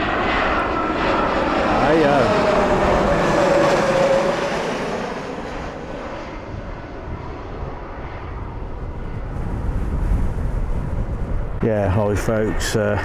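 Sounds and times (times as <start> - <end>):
jet airliner passing overhead: 0.0 - 13.0.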